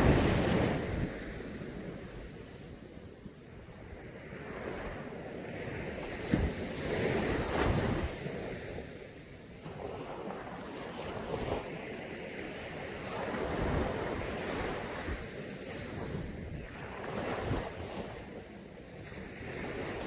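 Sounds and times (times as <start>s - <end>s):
waves washing onto a beach: 0.0s - 20.0s.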